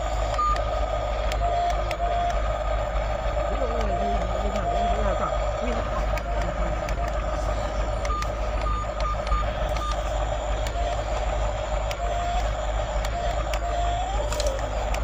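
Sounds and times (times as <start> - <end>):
steady low hum: 0.0 - 15.0
toy electronic beeps: 0.1 - 2.5, 3.7 - 15.0.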